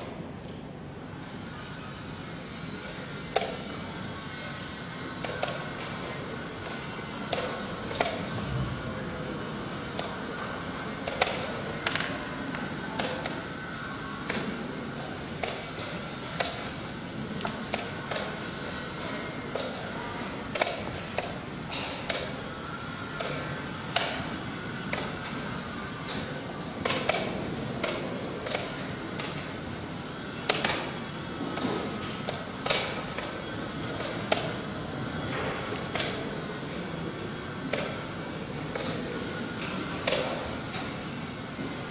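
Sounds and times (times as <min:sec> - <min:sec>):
steady background noise: 0:00.0 - 0:41.9.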